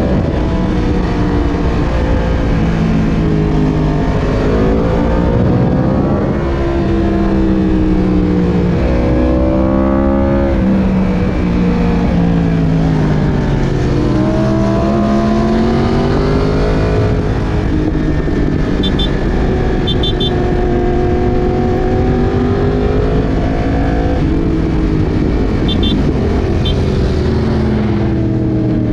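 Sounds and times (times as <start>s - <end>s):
motorcycle engine revving: 0.0s - 28.9s
wind and road noise: 0.0s - 28.9s.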